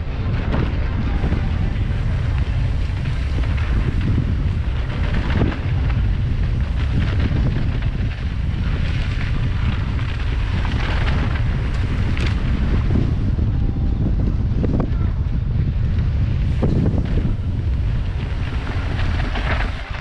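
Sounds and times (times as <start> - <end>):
bike clicks and rattles: 0.0 - 20.0
tyres on rough trail: 0.0 - 20.0
wind buffeting microphone: 0.0 - 20.0.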